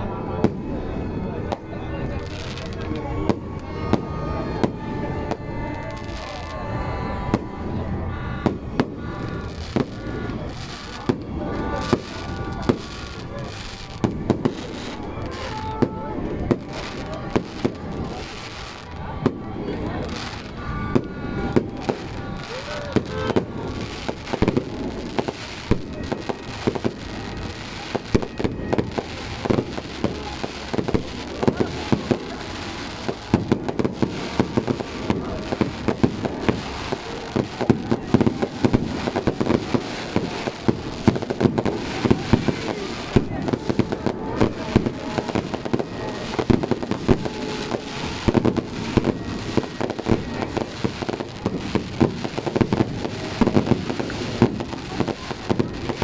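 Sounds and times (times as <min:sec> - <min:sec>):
crowd voices: 0:00.0 - 0:56.0
fireworks bangs and crackling: 0:00.0 - 0:56.0.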